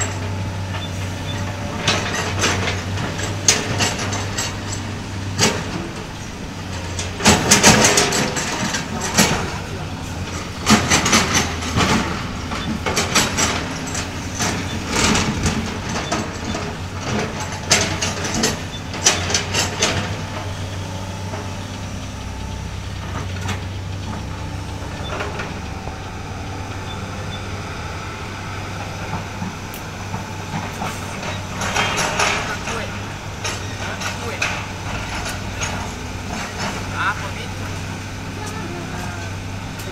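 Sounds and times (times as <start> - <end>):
bucket clanking and scraping: 0.0 - 27.9, 28.8 - 39.9
excavator diesel engine: 0.0 - 39.9.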